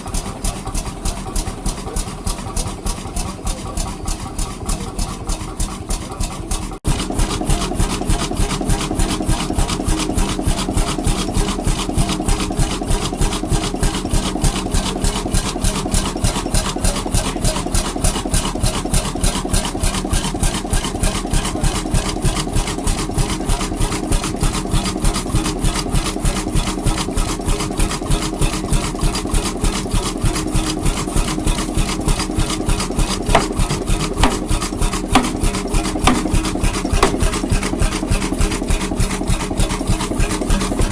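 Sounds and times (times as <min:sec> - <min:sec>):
engine running with fast beat: 0:00.0 - 0:40.9.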